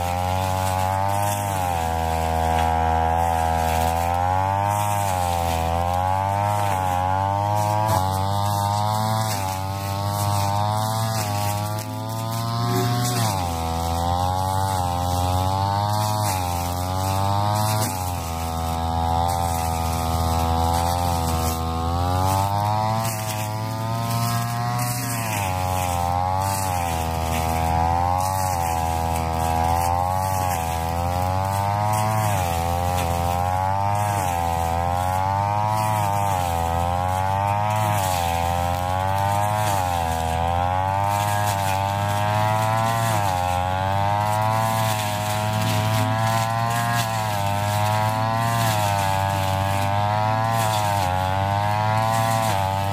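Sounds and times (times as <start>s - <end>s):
brush cutter engine cutting grass: 0.0s - 52.9s.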